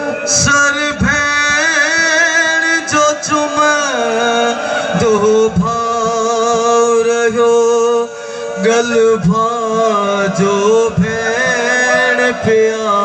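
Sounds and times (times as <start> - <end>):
man singing a lament: 0.0 - 13.0.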